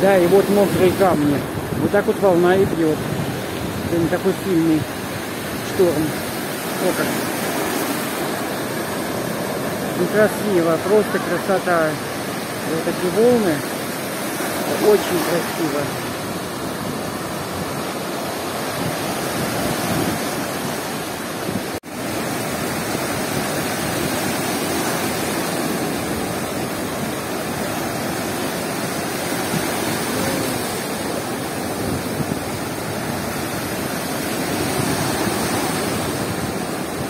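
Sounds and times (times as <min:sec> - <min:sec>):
surf breaking on shore: 0:00.0 - 0:37.0.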